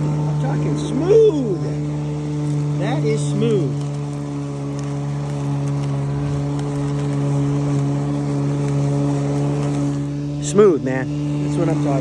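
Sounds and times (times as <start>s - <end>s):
electric lawn mower humming: 0.0s - 12.0s.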